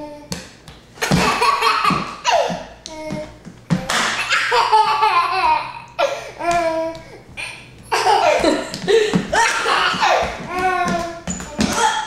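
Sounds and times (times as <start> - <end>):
toddler laughing: 1.0 - 3.3, 4.1 - 12.0.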